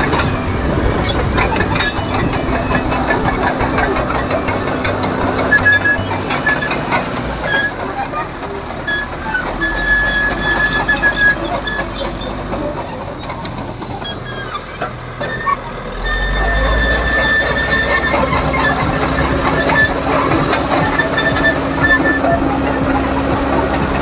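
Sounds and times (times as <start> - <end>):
bulldozer diesel engine: 0.0 - 24.0
high squeal: 0.0 - 24.0
steel tracks clanking: 0.0 - 24.0.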